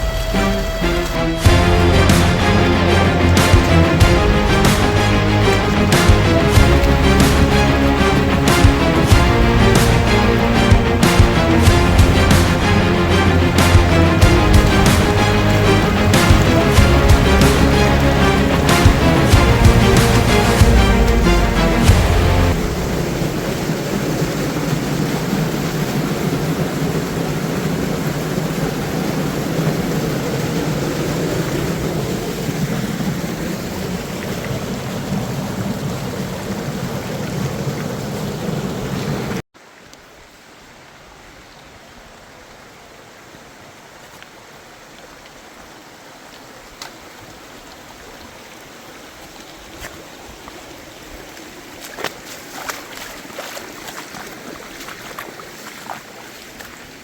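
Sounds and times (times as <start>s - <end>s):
water rushing: 0.0s - 57.0s.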